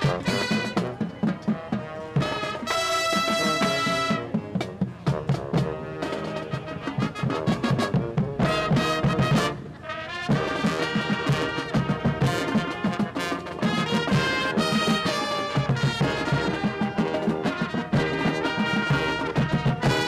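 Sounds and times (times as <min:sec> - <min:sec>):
marching band brass chords: 0:00.0 - 0:20.0
steady drum beat: 0:00.0 - 0:20.0.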